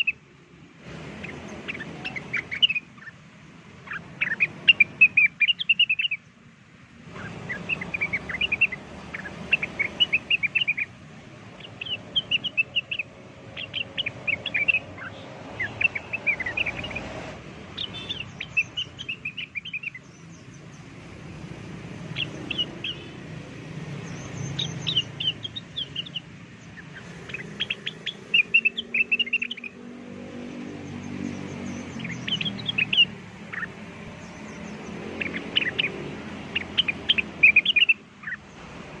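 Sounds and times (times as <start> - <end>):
bird chirping song: 0.0 - 39.0.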